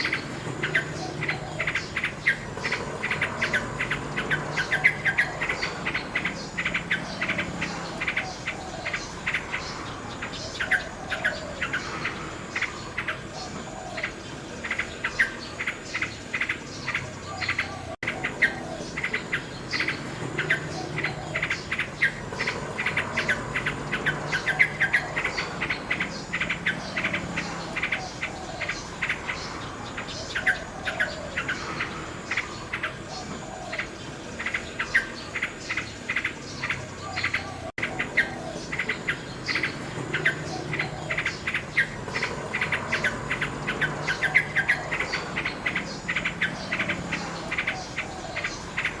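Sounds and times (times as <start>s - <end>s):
nightingale singing: 0.0s - 49.0s.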